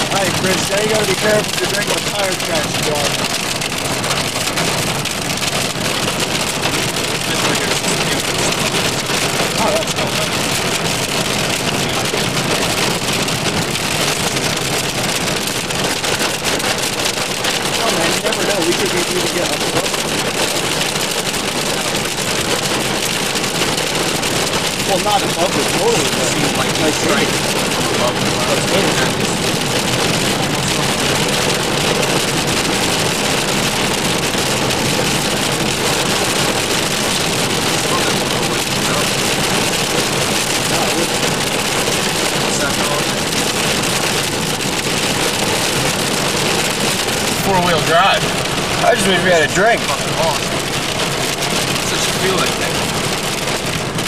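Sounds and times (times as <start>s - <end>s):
rain pattering on car: 0.0s - 54.0s
road noise: 0.0s - 54.0s
vehicle running noise: 0.0s - 54.0s.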